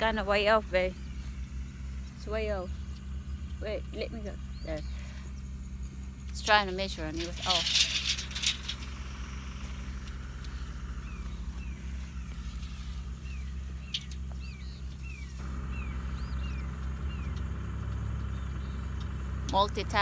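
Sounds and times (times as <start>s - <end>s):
bird chirping: 0.0s - 19.4s
engine humming: 0.0s - 20.0s.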